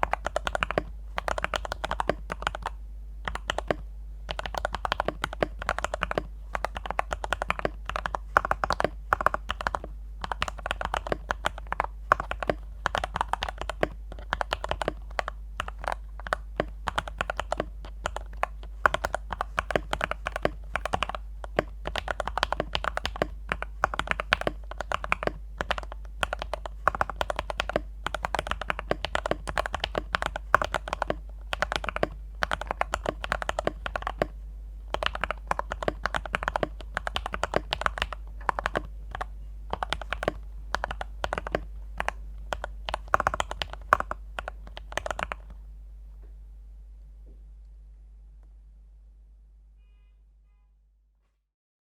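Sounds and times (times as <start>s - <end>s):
fast typing on mechanical keyboard: 0.0s - 45.6s.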